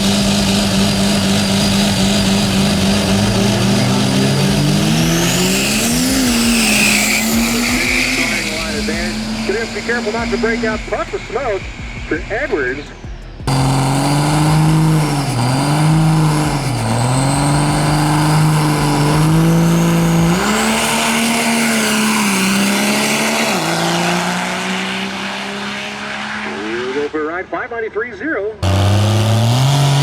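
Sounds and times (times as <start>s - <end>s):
diesel truck engine at full power: 0.0s - 30.0s.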